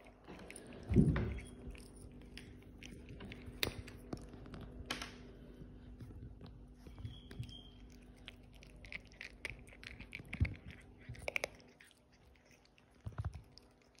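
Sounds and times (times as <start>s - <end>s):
cat crunching dry kibble: 0.0s - 6.8s, 7.8s - 14.0s.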